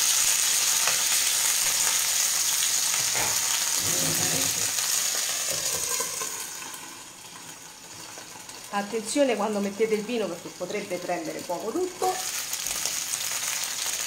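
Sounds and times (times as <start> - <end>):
fish sizzling in a frying pan: 0.0 - 14.0.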